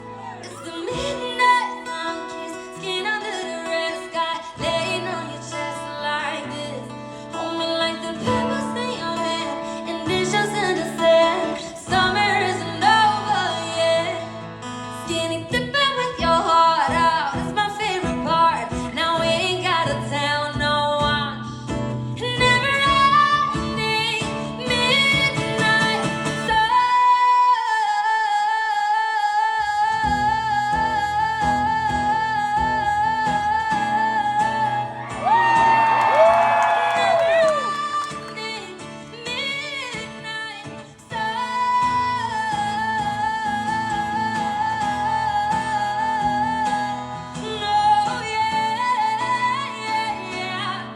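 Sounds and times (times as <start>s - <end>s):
woman singing pop song: 0.0s - 50.9s.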